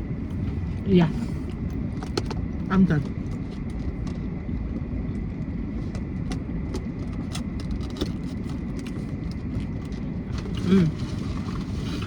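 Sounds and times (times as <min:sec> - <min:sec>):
car engine rumble inside cabin: 0:00.0 - 0:12.0.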